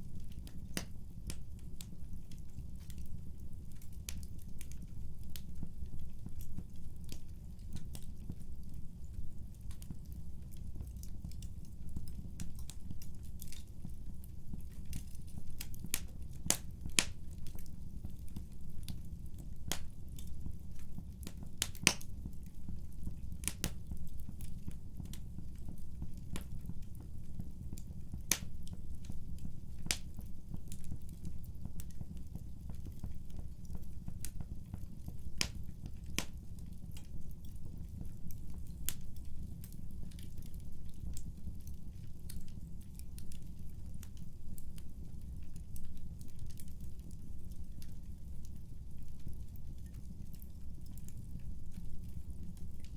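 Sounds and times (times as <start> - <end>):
low rumble of flames: 0.0 - 52.9
wood fire crackling: 0.0 - 52.9.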